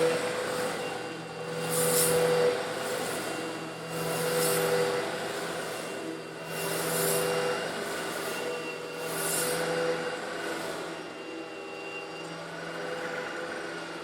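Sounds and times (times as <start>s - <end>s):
vacuum cleaner sucking up stones: 0.0s - 11.5s.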